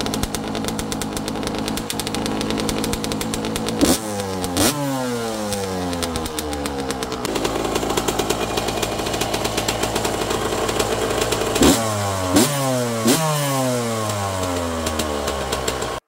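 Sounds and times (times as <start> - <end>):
dirt bike engine idling and revving: 0.0 - 16.0.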